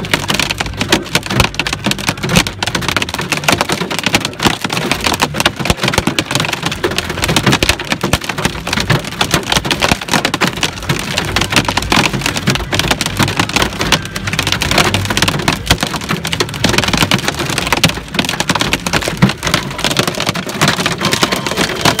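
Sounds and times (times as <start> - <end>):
hailstones pelting car roof: 0.0 - 22.0.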